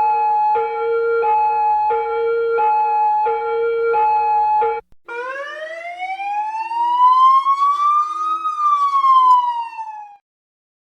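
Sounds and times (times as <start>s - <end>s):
police siren: 0.0s - 10.2s.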